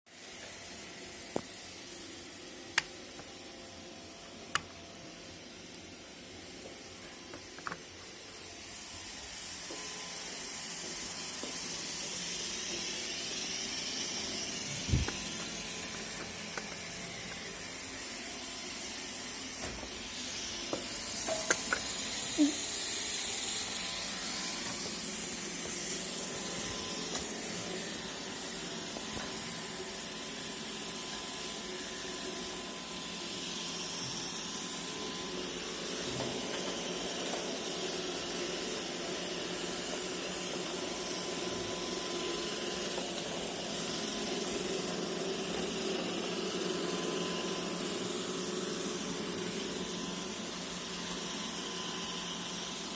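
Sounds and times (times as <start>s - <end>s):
robot vacuum running: 0.1s - 52.9s.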